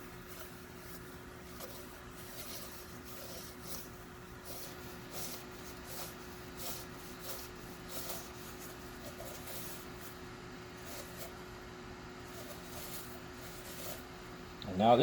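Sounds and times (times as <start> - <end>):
towel rubbing strokes: 0.0 - 11.5, 12.2 - 14.3.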